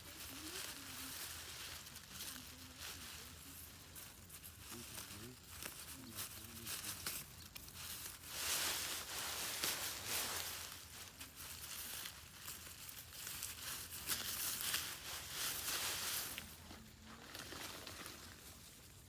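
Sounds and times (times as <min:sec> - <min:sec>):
faint voices: 0:00.0 - 0:12.4, 0:15.0 - 0:18.9
rustling and crackling: 0:00.0 - 0:19.0.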